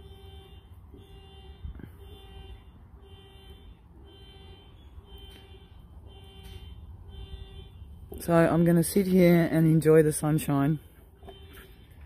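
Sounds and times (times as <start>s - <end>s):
car alarm repeating tone: 0.0s - 8.5s, 10.6s - 12.0s.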